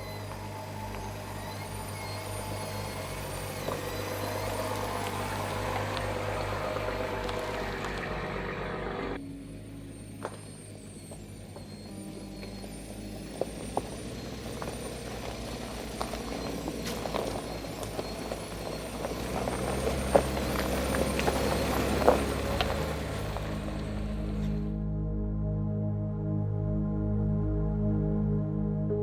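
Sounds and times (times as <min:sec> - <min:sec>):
vehicle engine and drivetrain hum: 0:00.0 - 0:25.3.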